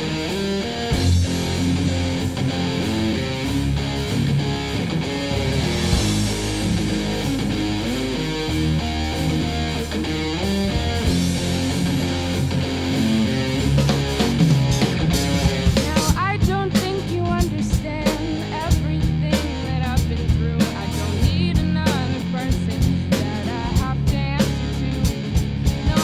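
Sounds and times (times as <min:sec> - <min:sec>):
band music with guitar: 0:00.0 - 0:26.0.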